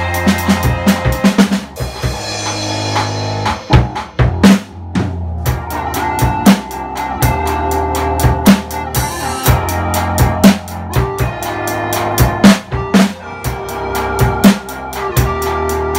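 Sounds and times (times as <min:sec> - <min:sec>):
backing track with bass and keys: 0:00.0 - 0:15.9
drum kit playing: 0:00.0 - 0:15.9.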